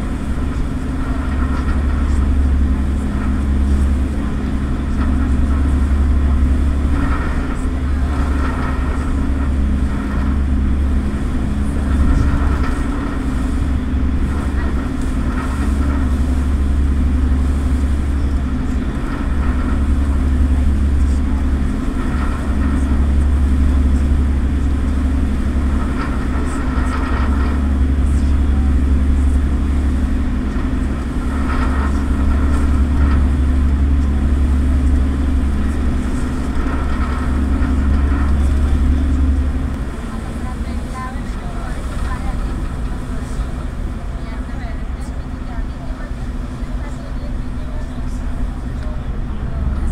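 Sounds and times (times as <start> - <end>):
ferry engines droning: 0.0 - 49.9.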